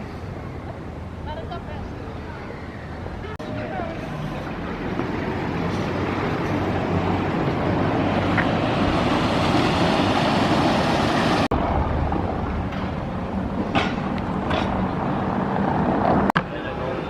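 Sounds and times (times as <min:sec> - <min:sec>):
city street din: 0:00.0 - 0:17.0
passing vehicle engines: 0:00.0 - 0:17.0.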